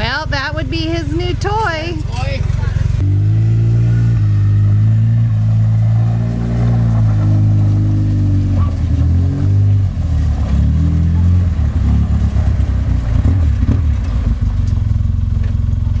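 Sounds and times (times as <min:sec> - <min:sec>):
utv engine running: 0:00.0 - 0:16.0.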